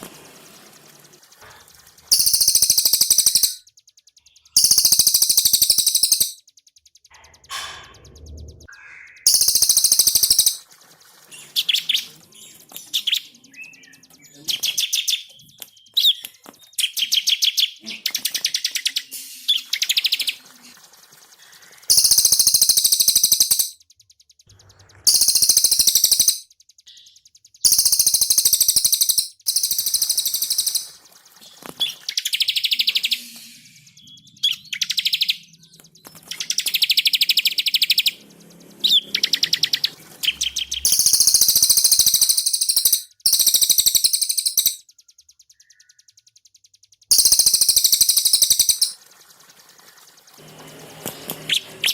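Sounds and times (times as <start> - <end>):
songbirds trilling: 0.7 - 19.0, 19.6 - 33.3, 34.0 - 50.4.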